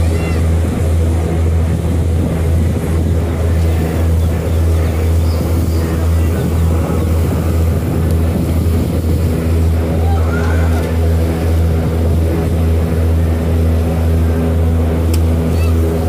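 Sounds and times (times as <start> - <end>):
boat diesel engine drone: 0.0 - 16.0.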